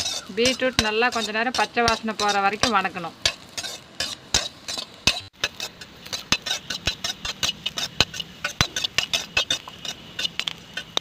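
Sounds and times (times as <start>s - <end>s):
light sizzle: 0.0s - 11.0s
spoon scraping an iron pan: 0.0s - 11.0s.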